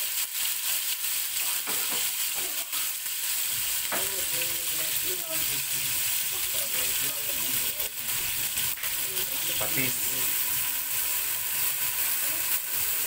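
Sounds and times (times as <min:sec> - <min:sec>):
meat frying in hot oil: 0:00.0 - 0:13.0.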